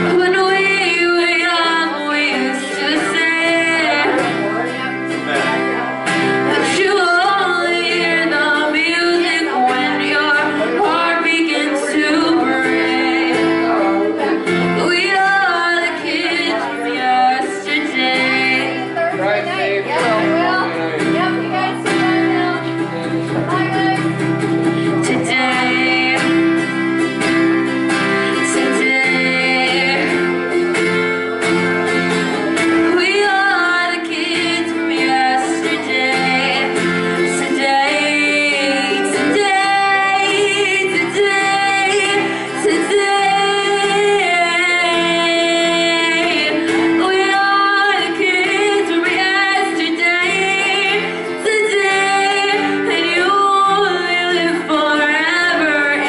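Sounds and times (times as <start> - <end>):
acoustic guitar: 0.0 - 56.0
woman singing: 0.0 - 56.0.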